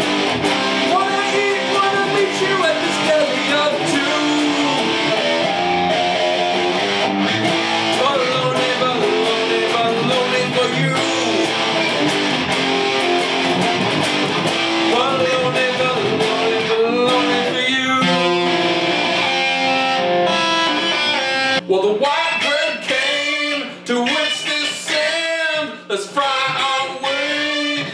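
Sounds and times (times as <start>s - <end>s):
electric guitar strumming chords: 0.0s - 25.4s.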